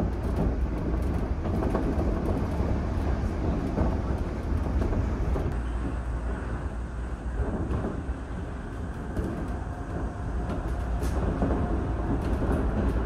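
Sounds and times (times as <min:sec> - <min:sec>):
monorail train low rumble: 0:00.0 - 0:13.0.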